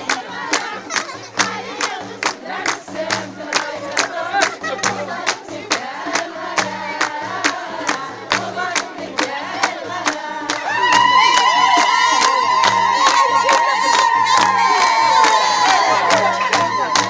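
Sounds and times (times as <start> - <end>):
hand clapping: 0.0 - 17.0
women singing together: 0.0 - 17.0.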